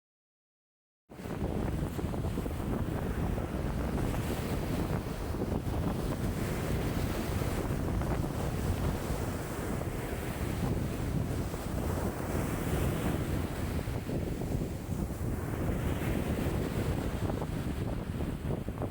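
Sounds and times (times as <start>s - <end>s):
wind buffeting microphone: 1.1s - 18.9s
lake waves washing in: 1.2s - 18.9s.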